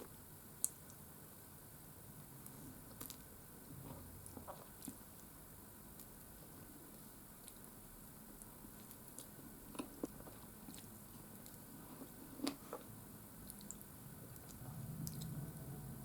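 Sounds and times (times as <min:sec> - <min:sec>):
person chewing soft cake: 0:02.5 - 0:15.8.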